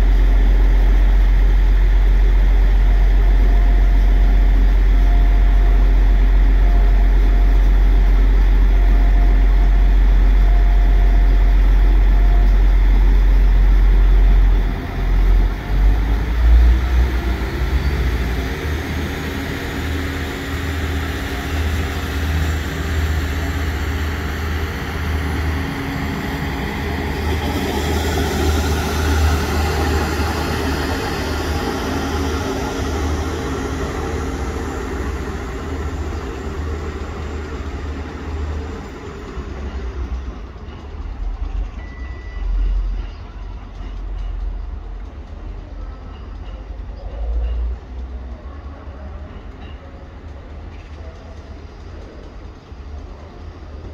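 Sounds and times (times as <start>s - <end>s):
diesel train engine: 0.0s - 53.9s.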